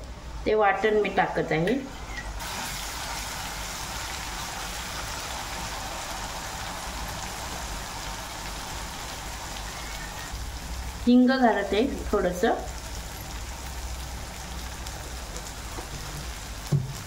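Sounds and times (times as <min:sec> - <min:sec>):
paste frying in hot oil: 0:02.0 - 0:17.0.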